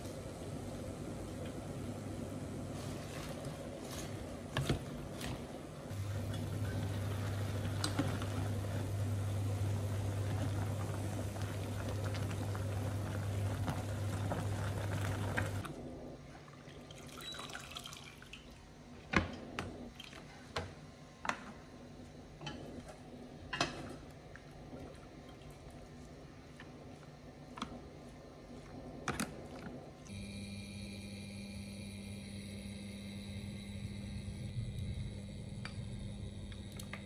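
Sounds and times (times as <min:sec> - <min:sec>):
induction hob hum: 0:00.0 - 0:17.5, 0:18.3 - 0:37.0
water boiling in a pot: 0:00.0 - 0:30.7.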